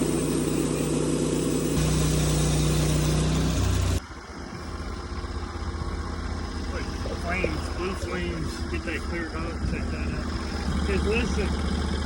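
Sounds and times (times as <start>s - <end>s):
low engine hum: 0.0s - 12.0s
sawmill engine running: 0.0s - 12.0s.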